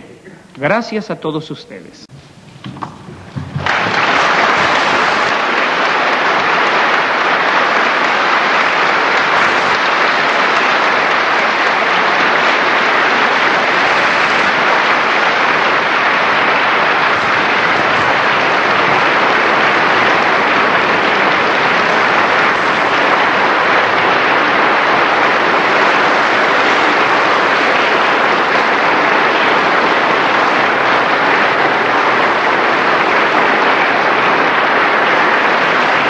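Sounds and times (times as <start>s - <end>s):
large audience applauding: 2.6s - 36.0s.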